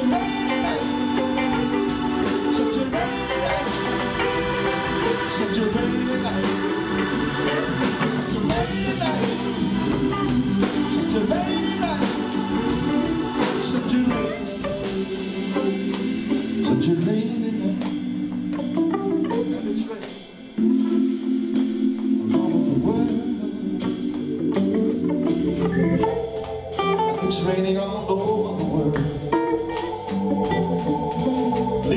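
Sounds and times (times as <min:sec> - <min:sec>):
drums with cymbal beat: 0:00.0 - 0:31.9
electric guitar: 0:00.0 - 0:31.9
organ chords: 0:00.0 - 0:31.9.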